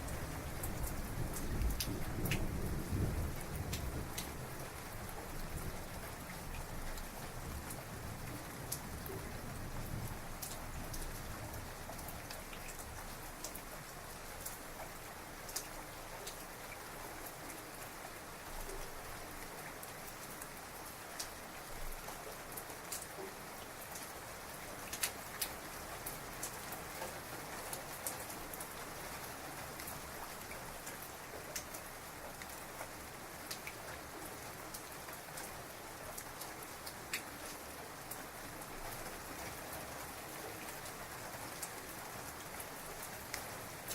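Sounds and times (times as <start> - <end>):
heavy rain: 0.0 - 43.9
raindrops ticking on surface: 0.0 - 43.9.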